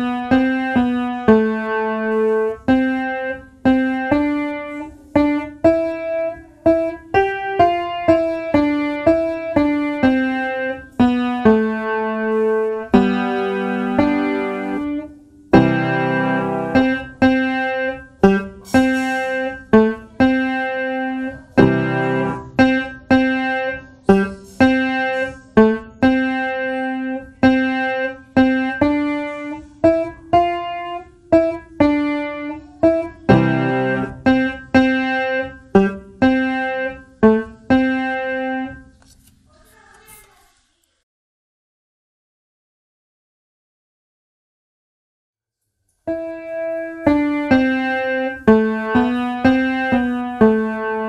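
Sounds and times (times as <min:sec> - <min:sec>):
piano notes ringing: 0:00.0 - 0:39.0, 0:46.1 - 0:51.0.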